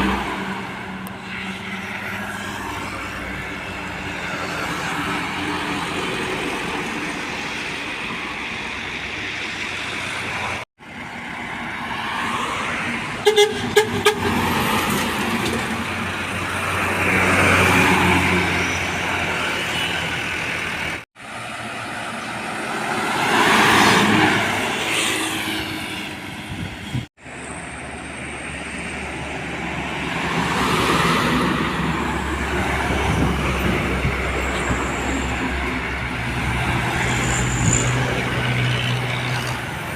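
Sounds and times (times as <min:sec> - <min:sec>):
heavy trucks passing: 0:00.0 - 0:39.9.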